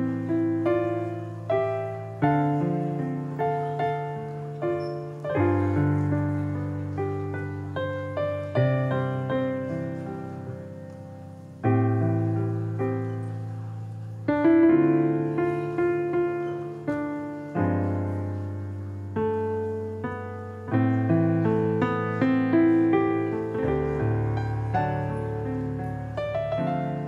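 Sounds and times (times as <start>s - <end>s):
gentle piano chords: 0.0s - 27.0s.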